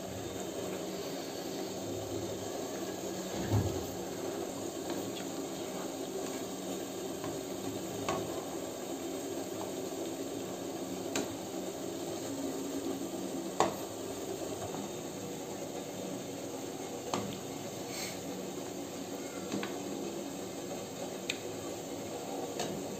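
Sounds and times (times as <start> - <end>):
balls deep-frying in hot oil: 0.0 - 22.9.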